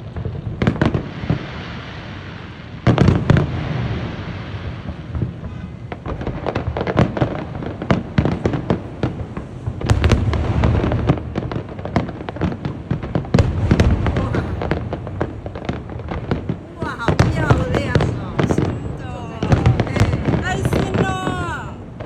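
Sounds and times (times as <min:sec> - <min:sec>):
firework burst: 0:00.0 - 0:22.0
fireworks crackling pops: 0:00.0 - 0:22.0.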